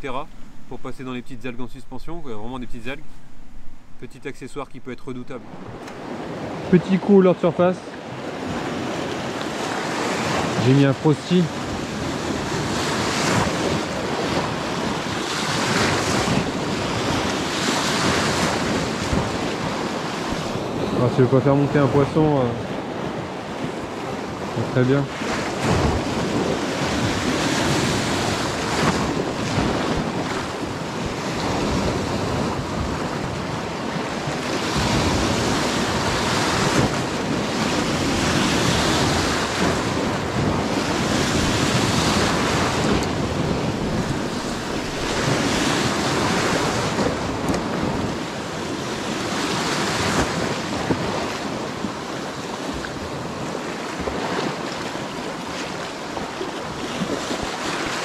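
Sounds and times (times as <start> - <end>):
sea waves breaking on shore: 0.0 - 58.0
wind buffeting microphone: 8.1 - 58.0.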